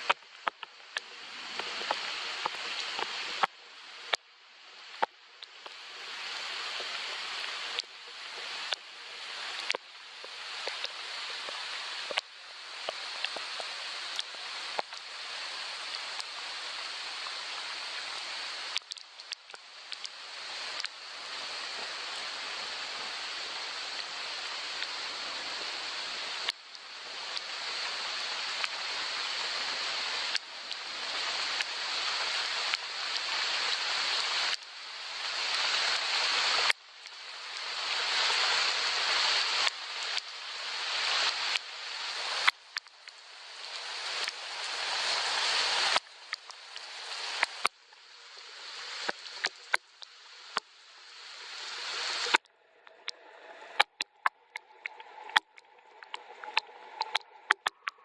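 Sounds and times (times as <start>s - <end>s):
sharp clicks of raindrops: 0.0s - 58.0s
soft rain hiss: 0.0s - 58.0s.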